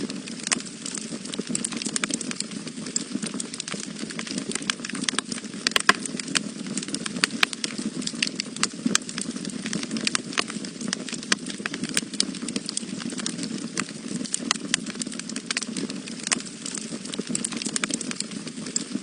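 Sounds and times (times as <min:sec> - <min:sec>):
low rumble of flame: 0:00.0 - 0:19.0
wood fire crackling and popping: 0:00.0 - 0:19.0.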